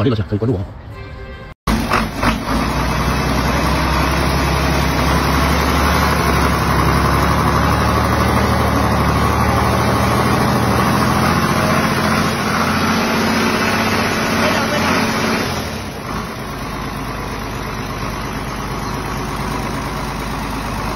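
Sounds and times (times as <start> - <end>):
diesel engine running: 1.7 - 20.9.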